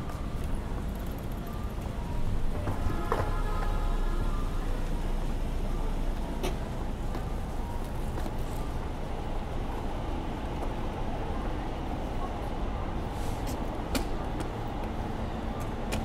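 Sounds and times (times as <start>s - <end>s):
distant traffic rumble: 0.0s - 16.0s.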